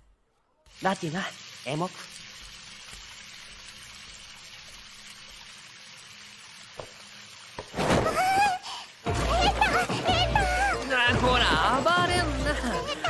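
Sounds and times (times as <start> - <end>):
water running from tap into bathtub: 0.7 - 13.0.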